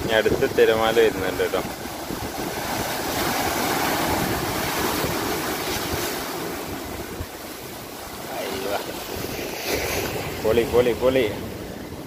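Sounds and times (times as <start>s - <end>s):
waves breaking on rocks: 0.0s - 12.0s.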